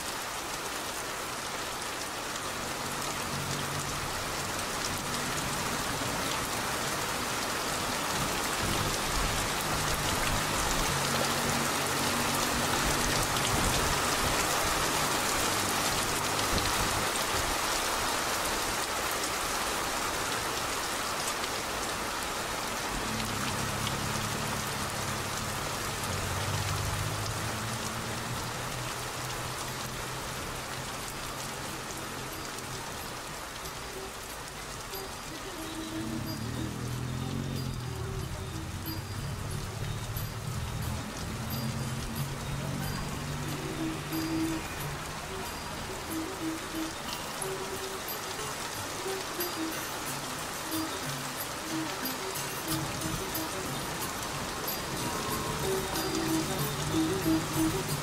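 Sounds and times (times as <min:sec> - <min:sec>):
rain splashing on street: 0:00.0 - 0:58.0.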